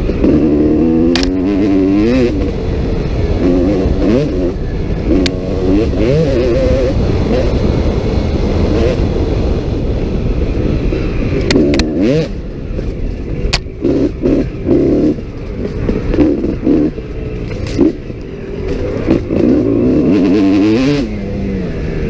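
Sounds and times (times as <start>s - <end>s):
dirt bike engine revving: 0.0s - 22.0s
wind and trail noise: 0.0s - 22.0s.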